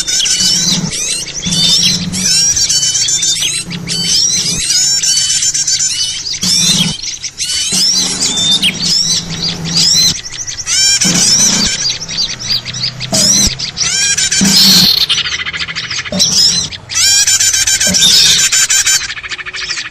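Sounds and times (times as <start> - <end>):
songbirds chirping and twittering: 0.0 - 19.9.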